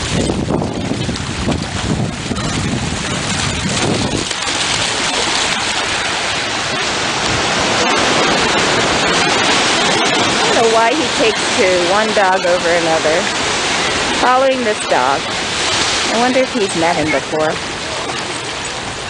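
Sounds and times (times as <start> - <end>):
dog splashing in water: 0.0 - 18.8
surf washing in: 0.0 - 19.0.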